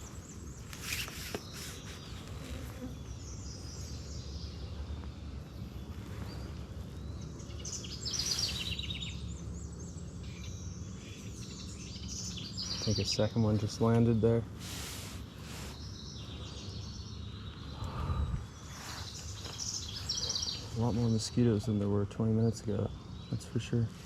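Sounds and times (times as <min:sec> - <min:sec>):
low outdoor hum: 0:00.0 - 0:24.0
songbirds singing: 0:00.0 - 0:24.0.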